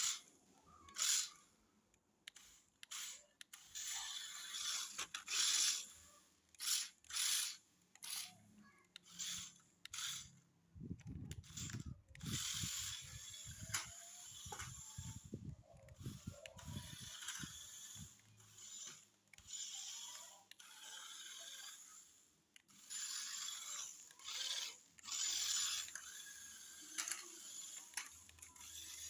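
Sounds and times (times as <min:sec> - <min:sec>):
toy car electric motor whirring: 0:00.0 - 0:01.6, 0:02.2 - 0:29.0.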